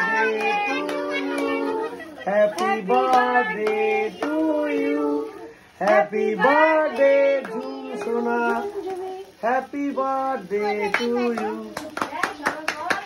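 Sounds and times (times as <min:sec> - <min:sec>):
children and women singing: 0:00.0 - 0:12.7.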